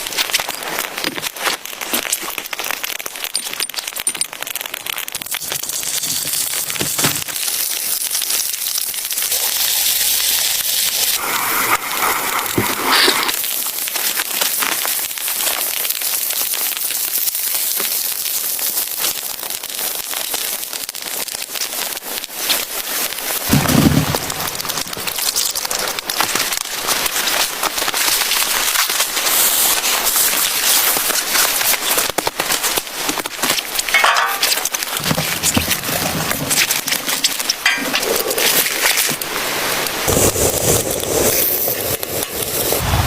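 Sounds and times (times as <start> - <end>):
snow and ice hitting tent fabric: 0.0 - 42.9.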